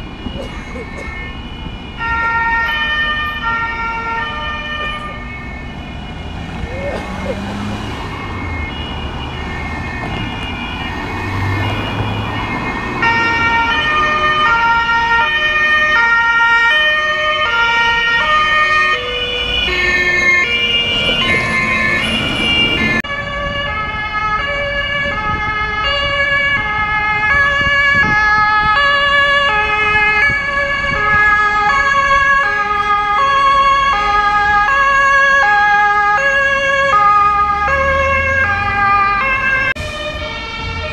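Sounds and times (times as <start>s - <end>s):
traffic noise: 0.0s - 40.9s
two-tone emergency sirens: 0.0s - 40.9s.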